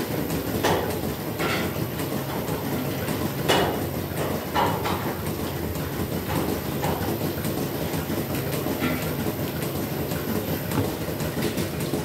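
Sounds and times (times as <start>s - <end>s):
machinery clicks and clanks: 0.0s - 12.0s
milking machinery hum: 0.0s - 12.0s.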